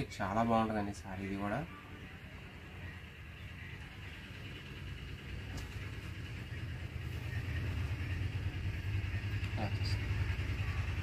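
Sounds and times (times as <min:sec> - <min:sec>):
low steady rumble: 0:01.6 - 0:11.0.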